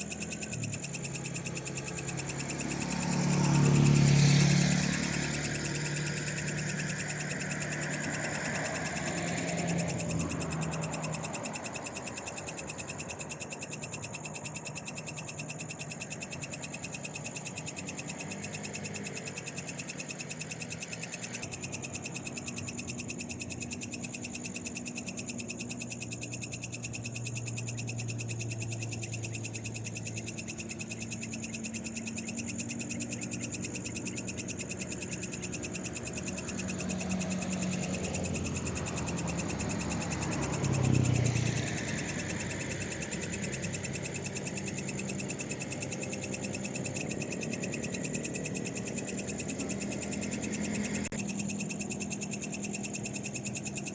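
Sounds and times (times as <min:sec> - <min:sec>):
frogs trilling: 0:00.0 - 0:53.9
high-pitched insect buzzing: 0:00.0 - 0:53.9.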